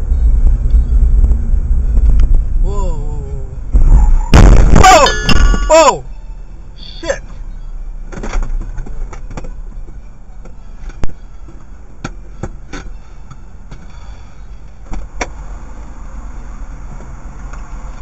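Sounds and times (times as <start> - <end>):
low rumble of stopped car: 0.0 - 18.0.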